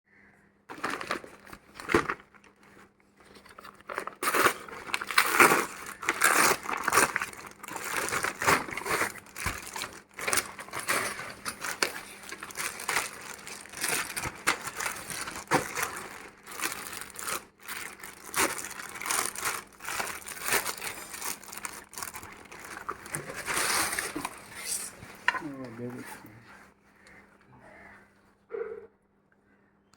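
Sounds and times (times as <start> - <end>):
plastic packaging crinkling: 0.7 - 25.6.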